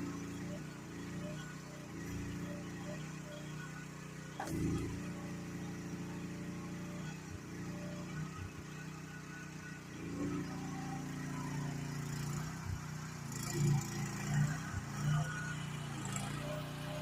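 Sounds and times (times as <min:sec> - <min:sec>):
mini excavator engine running: 0:00.0 - 0:17.0.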